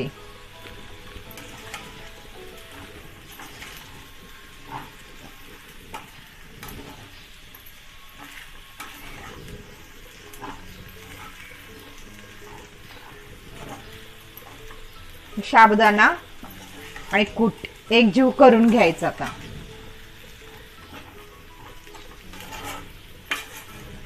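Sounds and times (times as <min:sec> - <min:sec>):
light sizzle from pan: 0:00.0 - 0:24.0
metal spatula scraping pan: 0:00.0 - 0:24.0.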